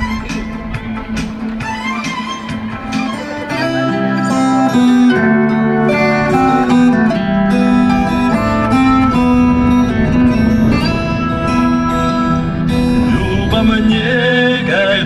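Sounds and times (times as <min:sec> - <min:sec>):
plucked strings: 0:00.0 - 0:15.0
steady held notes: 0:00.0 - 0:15.0.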